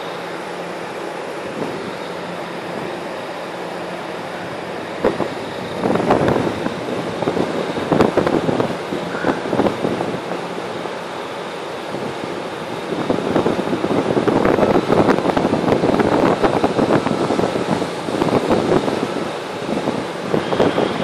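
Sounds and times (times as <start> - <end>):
train running noise: 0.0 - 21.0
wind buffeting microphone: 1.2 - 21.0.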